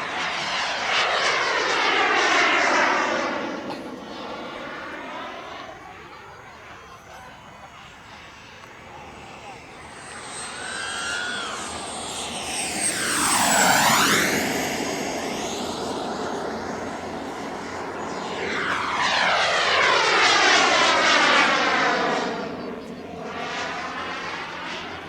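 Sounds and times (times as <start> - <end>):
model jet turbine whine flying past: 0.0 - 25.0.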